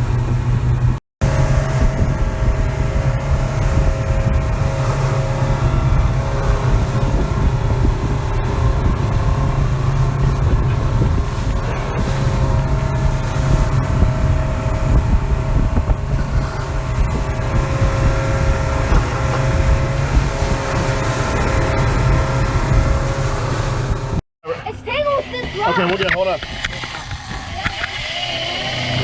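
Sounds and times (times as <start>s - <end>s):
wind buffeting microphone: 0.0s - 24.2s, 24.9s - 29.0s
motorboat engine droning: 0.0s - 29.0s.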